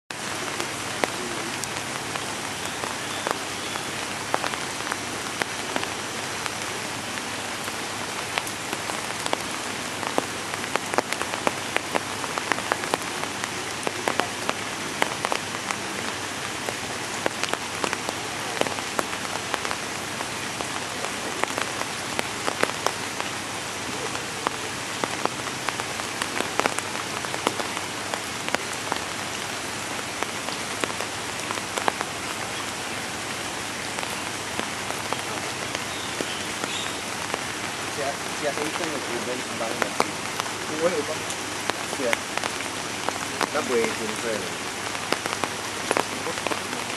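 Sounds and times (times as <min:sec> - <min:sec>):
rain falling on water: 0:00.1 - 0:46.9.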